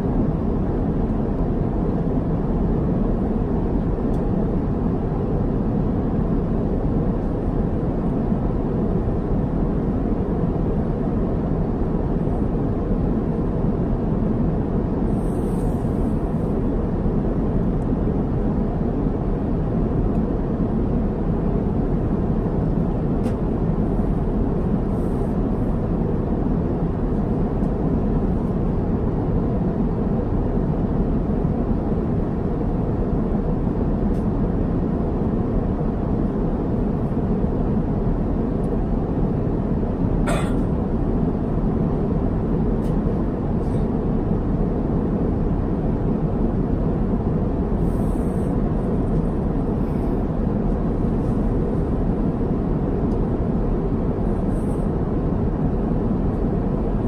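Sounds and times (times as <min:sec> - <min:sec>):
airplane cabin airflow and engines: 0:00.0 - 0:57.0.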